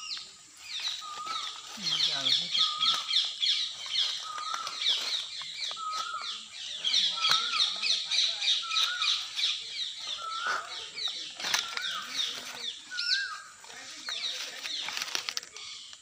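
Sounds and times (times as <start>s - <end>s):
birds chirping in falling notes: 0.0s - 16.0s.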